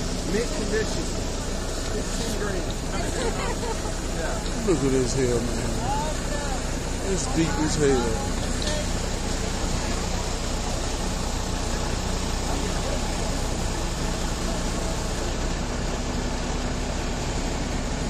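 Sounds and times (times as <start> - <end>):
constant hiss: 0.0 - 18.0
vehicle engine idling: 0.0 - 18.0.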